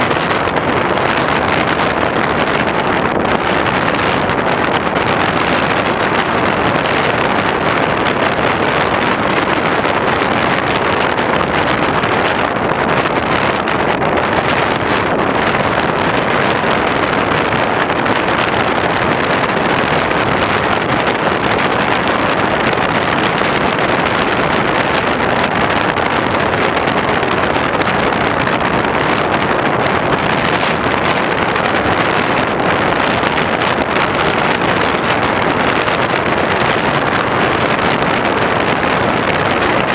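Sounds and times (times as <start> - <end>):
wind rushing: 0.0 - 39.9.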